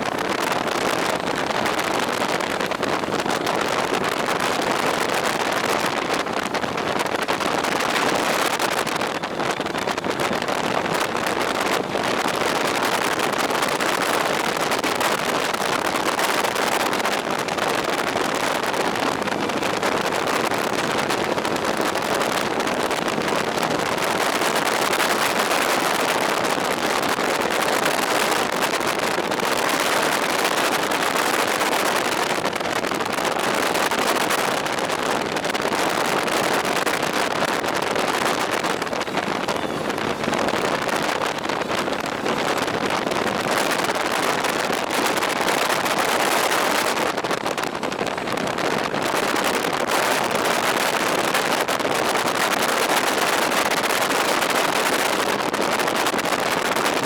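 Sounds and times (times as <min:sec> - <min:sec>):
road noise: 0:00.0 - 0:57.0
wind rushing on microphone: 0:00.0 - 0:57.0.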